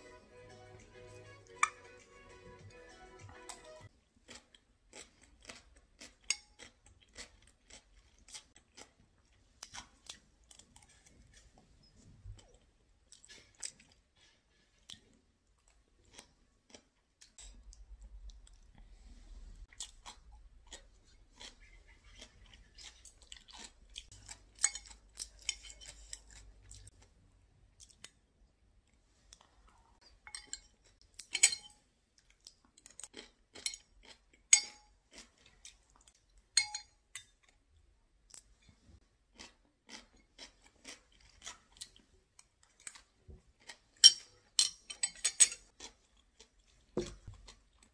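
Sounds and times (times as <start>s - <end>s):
chewing and crunching: 3.4s - 36.6s, 37.2s - 47.9s.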